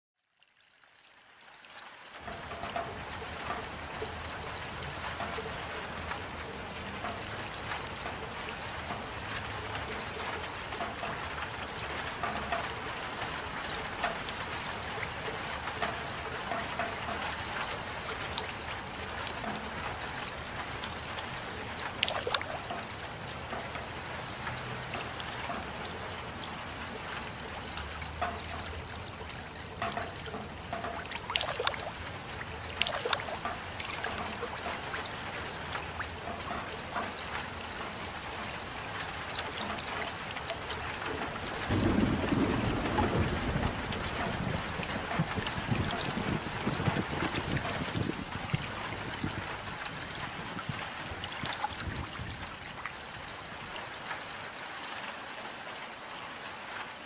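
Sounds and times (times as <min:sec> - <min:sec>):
rain falling: 0:00.2 - 0:57.0
sharp raindrops: 0:00.2 - 0:57.0.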